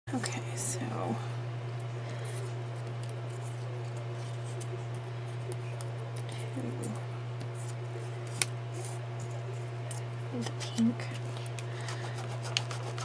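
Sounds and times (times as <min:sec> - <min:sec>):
low electrical hum: 0:00.1 - 0:13.0.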